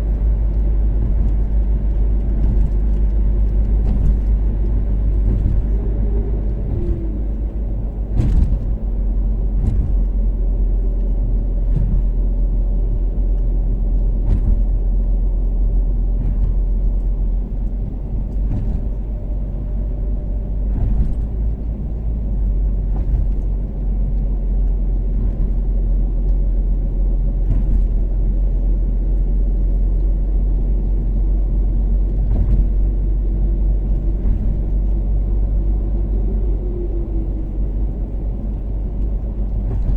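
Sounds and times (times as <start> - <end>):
car engine droning: 0.0 - 39.9
road rumble: 0.0 - 39.9.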